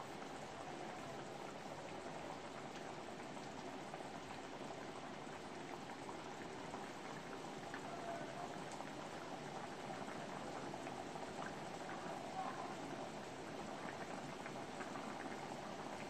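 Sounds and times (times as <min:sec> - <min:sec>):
curry bubbling in a pan: 0:00.0 - 0:16.0.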